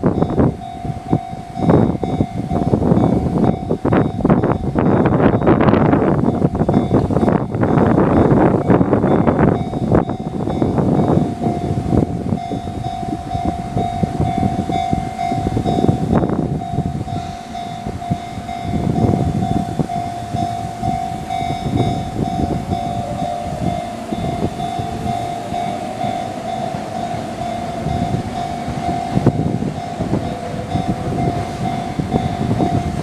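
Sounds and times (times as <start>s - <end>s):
level crossing alarm bell: 0.0s - 33.0s
lower alarm tone: 0.0s - 33.0s.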